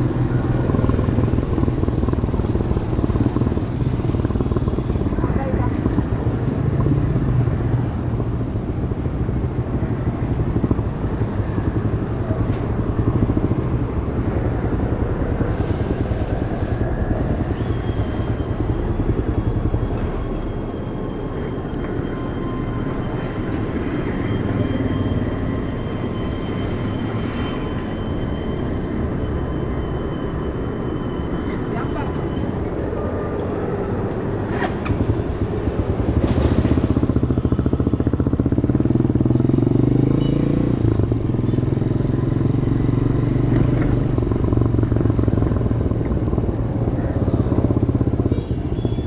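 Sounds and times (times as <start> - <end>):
motorcycle engine droning: 0.0 - 49.0
road and wind noise: 0.0 - 49.0.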